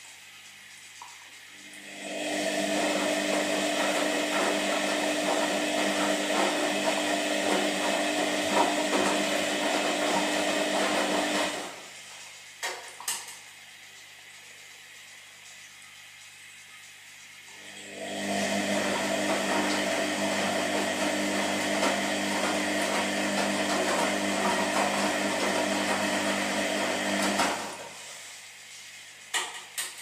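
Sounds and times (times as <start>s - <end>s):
washing machine motor running: 0.0s - 29.4s.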